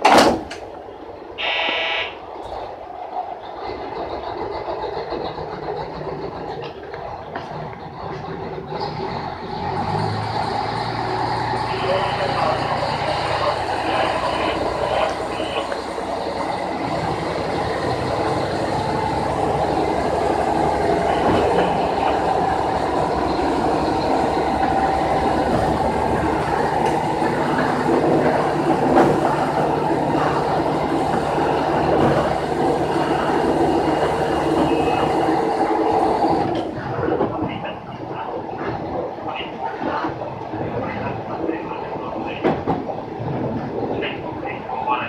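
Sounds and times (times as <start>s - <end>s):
wheels clattering over rail joints: 0.0s - 1.4s, 2.2s - 45.0s
diesel railcar engine: 0.0s - 45.0s.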